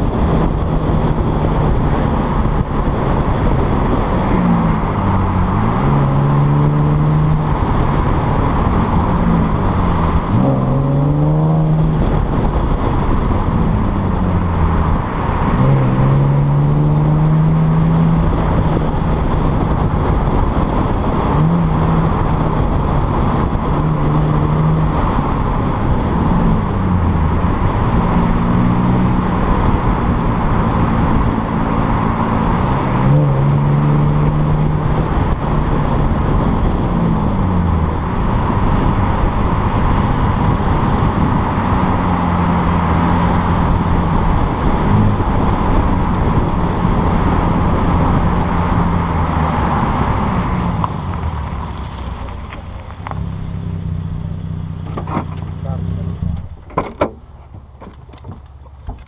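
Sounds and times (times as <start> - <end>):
car engine revving: 0.0 - 59.0
road and wind noise: 0.0 - 59.0.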